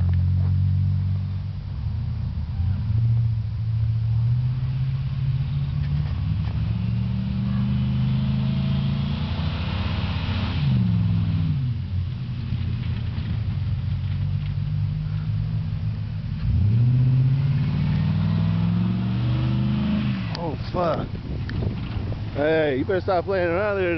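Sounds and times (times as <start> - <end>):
truck engine revving: 0.0 - 23.9.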